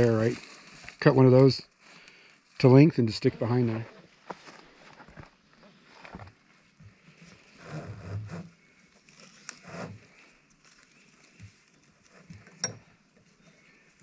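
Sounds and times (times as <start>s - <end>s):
rustling and handling: 0.0s - 14.0s.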